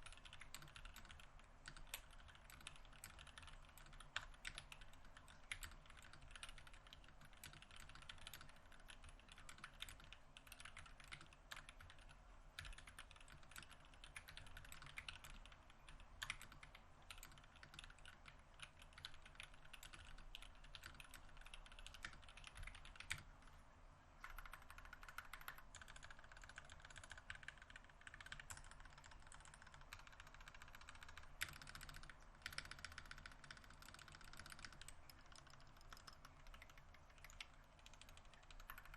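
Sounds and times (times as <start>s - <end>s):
mechanical keyboard typing: 0.0s - 23.3s, 24.2s - 38.9s.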